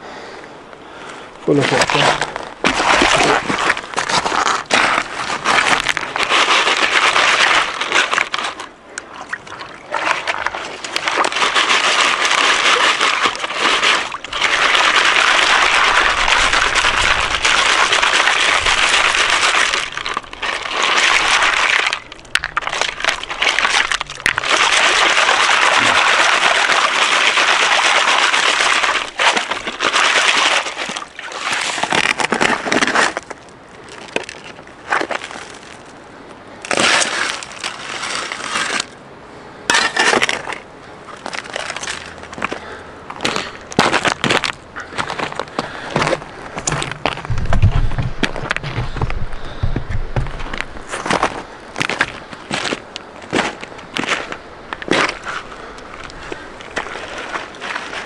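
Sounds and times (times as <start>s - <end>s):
water splashing and sloshing: 1.5s - 39.0s, 39.7s - 58.0s.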